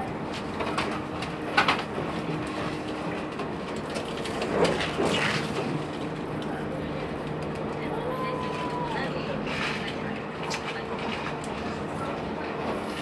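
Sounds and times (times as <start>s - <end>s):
train rattle: 0.0s - 13.0s
train rolling rumble: 0.0s - 13.0s.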